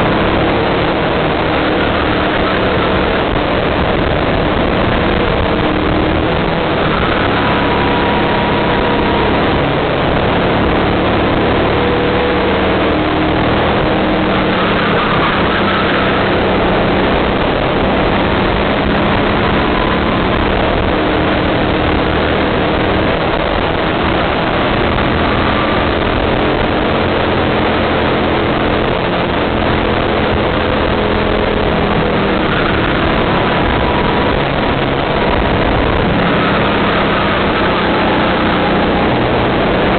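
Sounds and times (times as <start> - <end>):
go-kart engine: 0.0 - 39.9
loud rushing noise: 0.0 - 39.9.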